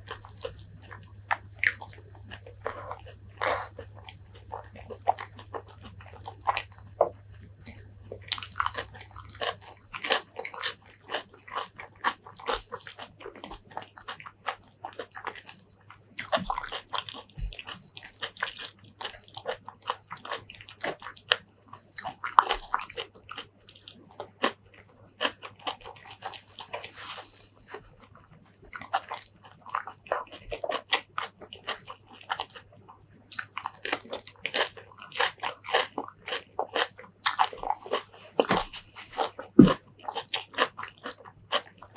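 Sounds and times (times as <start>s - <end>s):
crunching and chewing: 0.0s - 41.9s.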